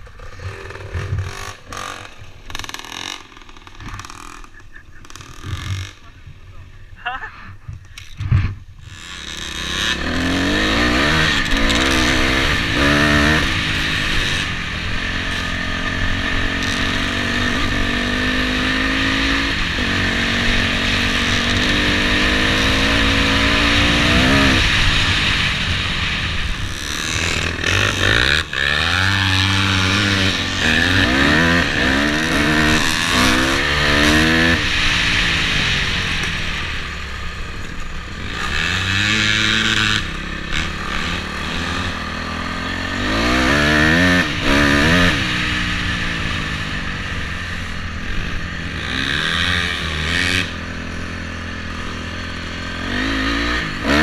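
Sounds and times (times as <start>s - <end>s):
dirt bike engine revving: 0.0s - 54.0s
steady rushing noise: 0.0s - 54.0s.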